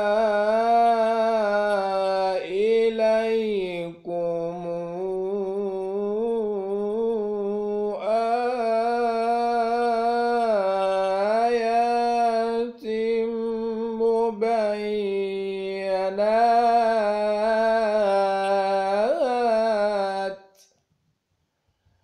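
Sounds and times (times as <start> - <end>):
man reciting in melodic chant: 0.0 - 20.7.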